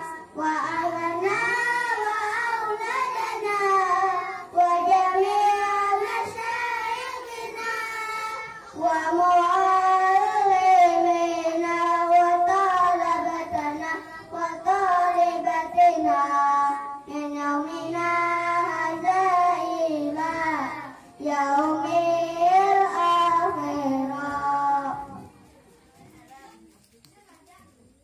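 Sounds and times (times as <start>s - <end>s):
children singing in unison: 0.0s - 25.3s
boy singing into a microphone: 0.0s - 25.4s.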